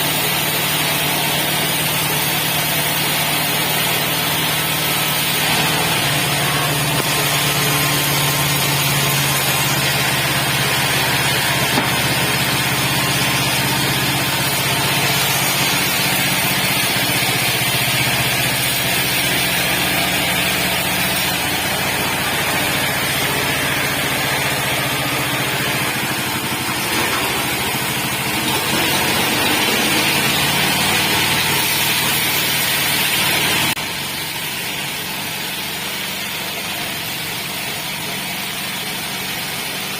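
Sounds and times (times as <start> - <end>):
band sawmill engine hum: 0.0 - 39.9
sawmill hiss: 0.0 - 39.9.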